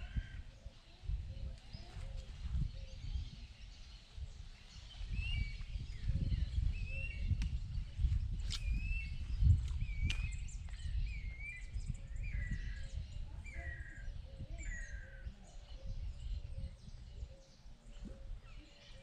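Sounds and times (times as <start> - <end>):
gusty low rumble: 1.1 - 17.3.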